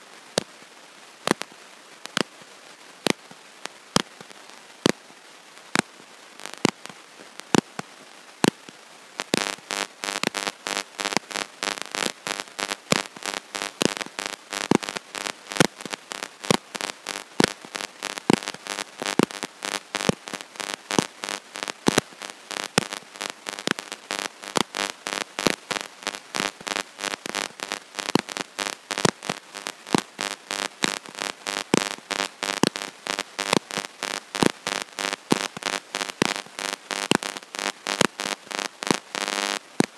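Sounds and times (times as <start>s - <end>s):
crackling clicks: 1.2s - 2.4s, 3.0s - 5.0s, 5.7s - 39.9s.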